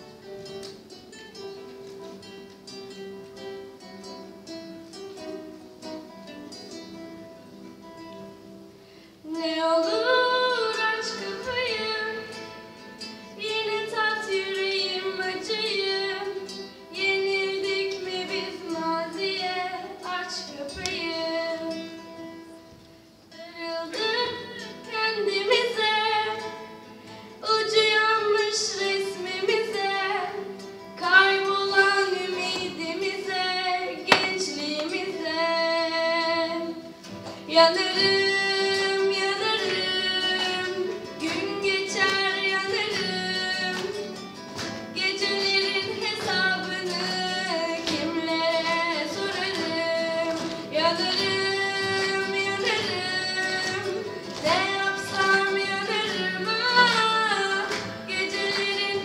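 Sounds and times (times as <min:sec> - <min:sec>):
classical guitars picking: 0:00.0 - 0:59.0
young woman singing: 0:09.2 - 0:22.5, 0:23.3 - 0:59.0.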